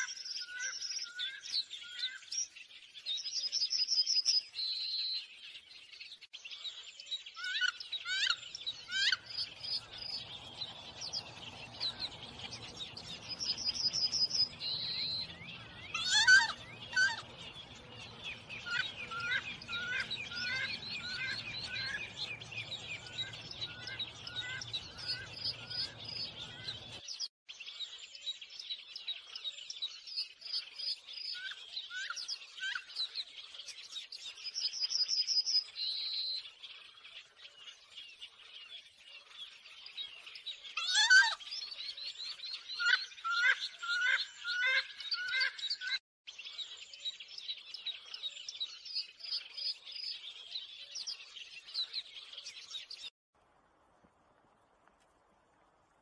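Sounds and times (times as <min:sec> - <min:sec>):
songbirds chirping and singing: 0:00.0 - 0:53.1.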